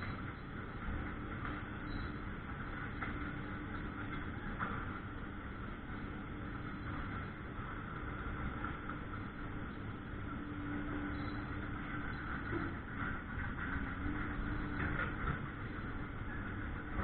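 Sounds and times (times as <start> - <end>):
engine running: 0.0 - 17.0
low steady hum: 0.0 - 17.0.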